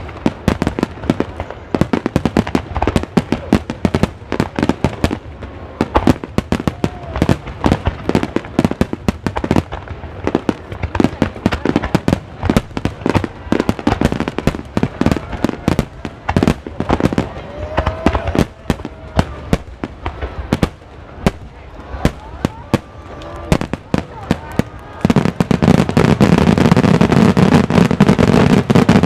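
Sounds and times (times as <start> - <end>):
fireworks bangs and cracks: 0.0 - 29.0.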